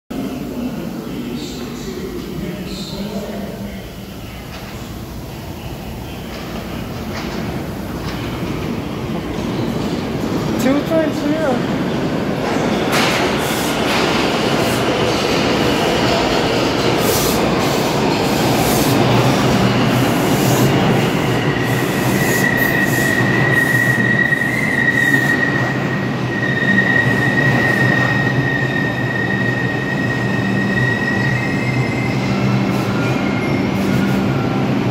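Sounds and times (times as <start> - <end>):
subway train rumbling: 0.1 - 34.9.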